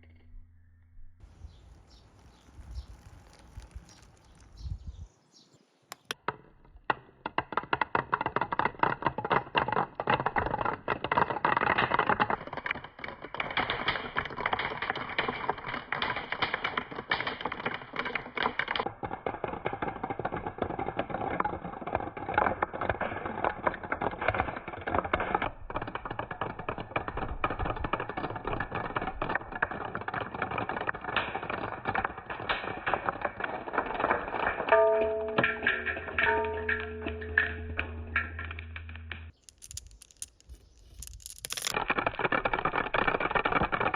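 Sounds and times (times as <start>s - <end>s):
marbles rolling and clattering: 1.2s - 5.0s, 5.9s - 43.9s.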